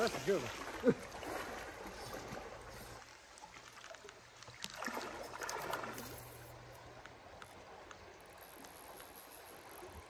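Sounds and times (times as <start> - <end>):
creek water flowing: 0.0 - 10.0.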